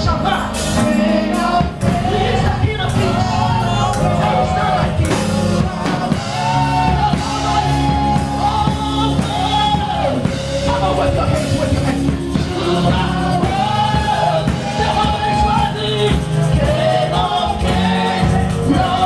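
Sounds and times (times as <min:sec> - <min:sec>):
bass: 0:00.0 - 0:19.0
drum kit: 0:00.0 - 0:19.0
worship music with singing: 0:00.0 - 0:19.0.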